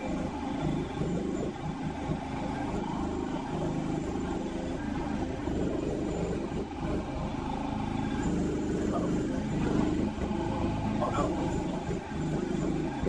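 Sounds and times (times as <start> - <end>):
skid steer engine running under load: 0.0 - 13.0.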